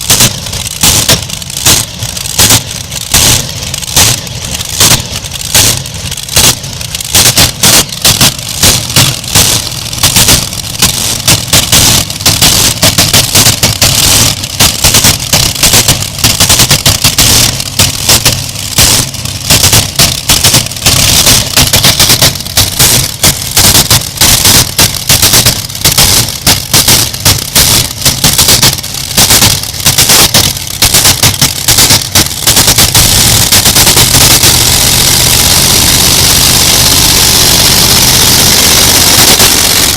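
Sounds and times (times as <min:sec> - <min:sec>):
tractor engine crackling pops: 0:00.0 - 0:39.9.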